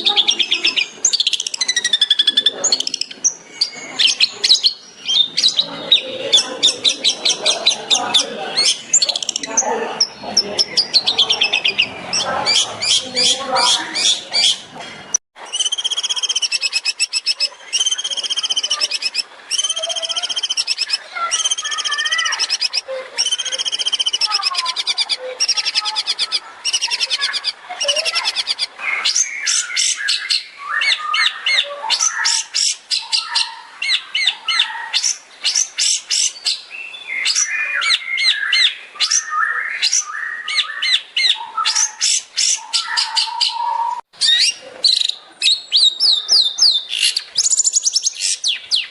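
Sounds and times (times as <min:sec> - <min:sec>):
shrike singing: 0:00.0 - 0:14.7, 0:15.4 - 0:48.9.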